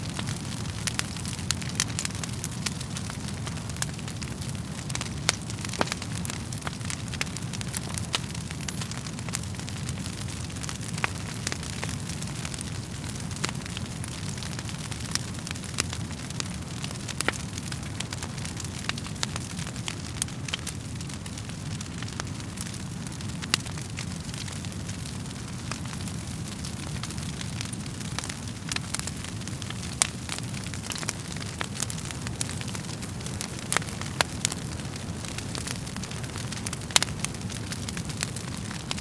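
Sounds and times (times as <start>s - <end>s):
fire crackling and popping: 0.0s - 39.0s
low rumble of flames: 0.0s - 39.0s.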